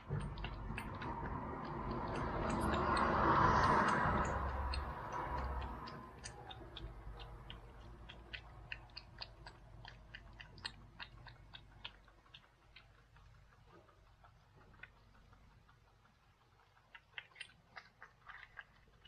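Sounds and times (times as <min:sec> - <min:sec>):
cat chewing food: 0:00.0 - 0:19.0.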